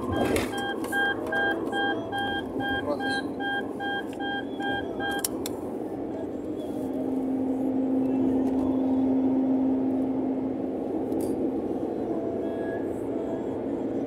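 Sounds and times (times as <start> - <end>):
road noise inside car: 0.0 - 14.0.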